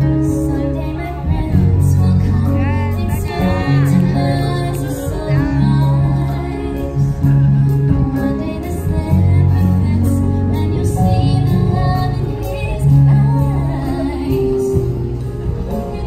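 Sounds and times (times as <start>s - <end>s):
bass line: 0.0s - 16.0s
person singing: 0.0s - 16.0s.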